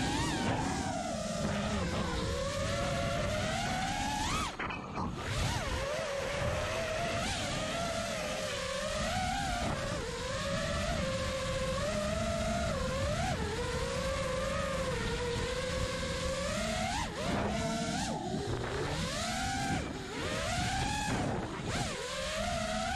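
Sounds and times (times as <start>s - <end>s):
quadcopter motors whining: 0.0s - 22.9s
wind rush on microphone: 0.0s - 22.9s.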